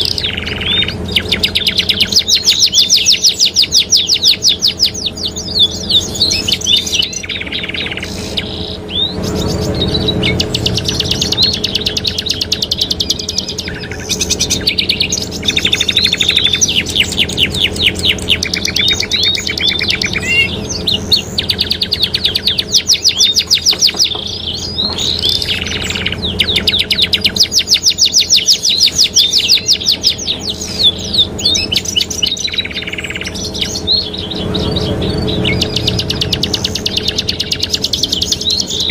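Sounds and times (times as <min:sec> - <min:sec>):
canaries singing trills: 0:00.0 - 0:38.9
steady low hum: 0:00.0 - 0:38.9.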